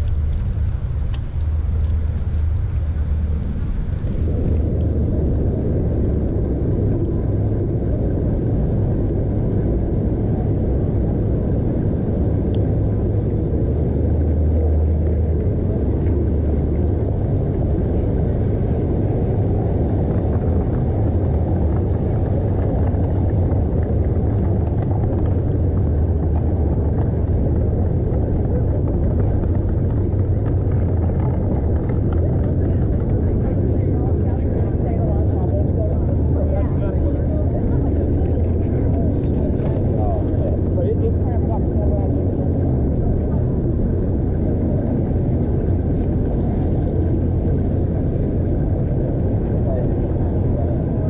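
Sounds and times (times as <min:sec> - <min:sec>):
wind and road noise rumble: 0:00.0 - 0:51.0.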